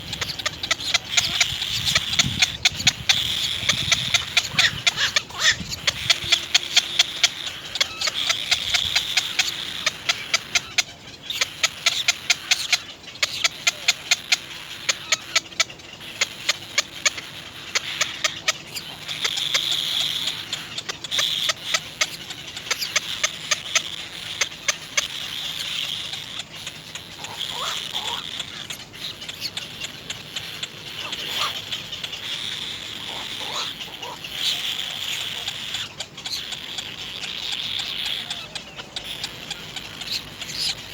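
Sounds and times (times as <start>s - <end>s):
baby birds chirping: 0.0s - 40.9s.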